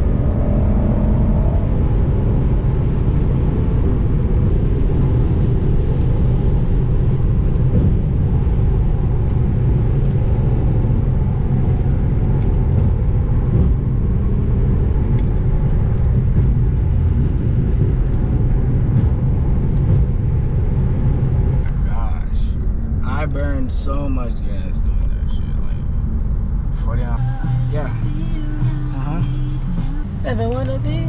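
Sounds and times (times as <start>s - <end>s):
road and engine rumble in car: 0.0s - 31.0s.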